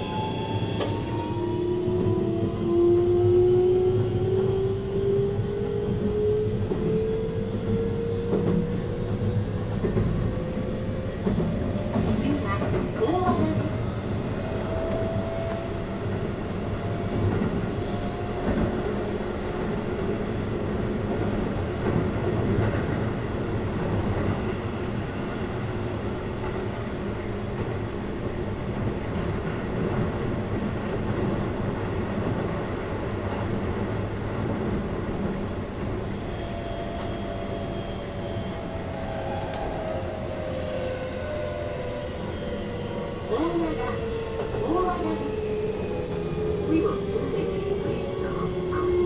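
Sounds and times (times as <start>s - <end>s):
train wheels rumbling: 0.0s - 49.0s.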